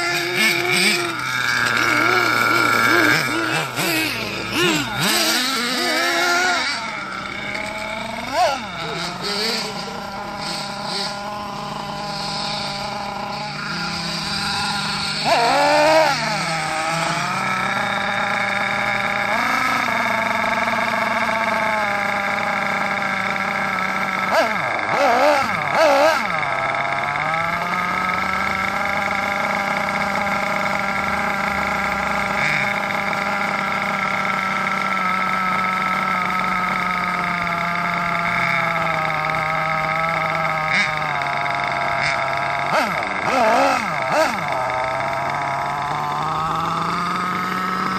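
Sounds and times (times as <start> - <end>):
small two-stroke engine idling: 0.0 - 47.9.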